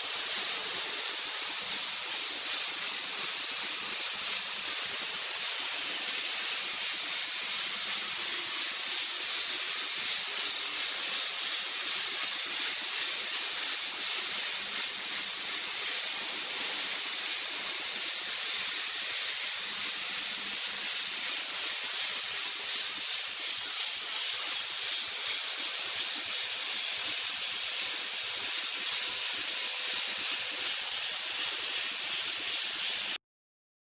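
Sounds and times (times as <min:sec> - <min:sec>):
loud steady hissing: 0:00.0 - 0:33.2.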